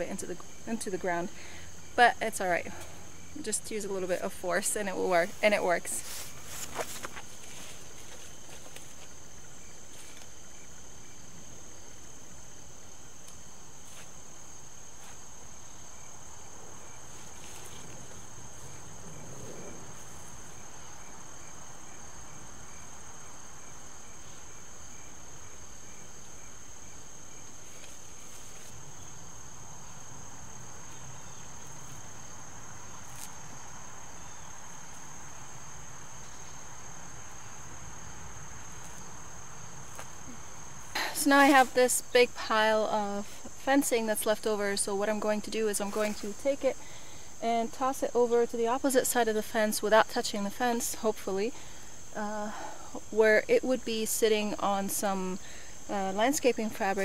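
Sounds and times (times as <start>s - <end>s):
insect high-pitched trill: 0.0s - 57.0s
insect pulsed chirping: 0.0s - 57.0s.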